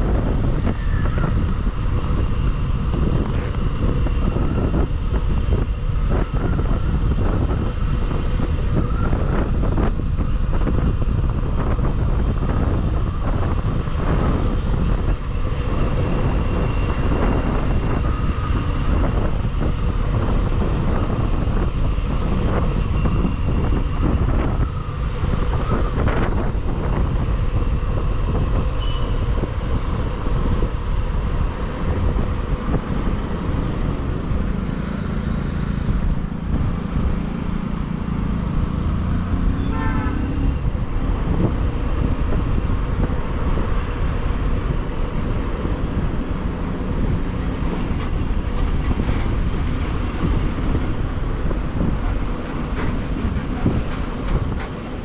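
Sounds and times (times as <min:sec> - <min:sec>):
motorcycle engine drone: 0:00.0 - 0:55.0
road traffic: 0:00.0 - 0:55.0
wind rush: 0:00.0 - 0:55.0.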